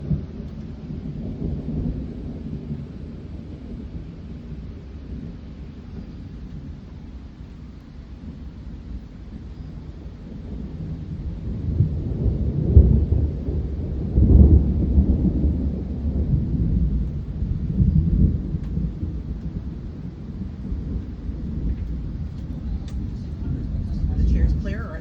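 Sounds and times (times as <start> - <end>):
rolling thunder: 0.0 - 25.0.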